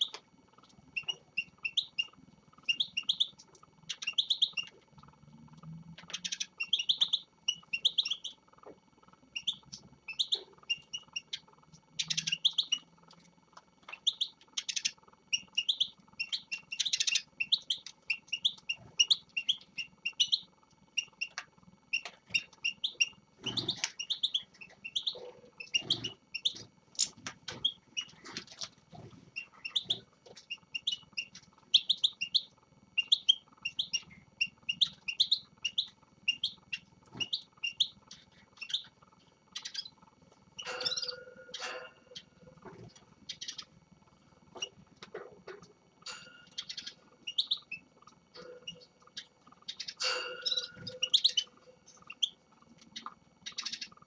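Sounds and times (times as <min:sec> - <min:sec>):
finches chirping: 0:00.0 - 0:54.0.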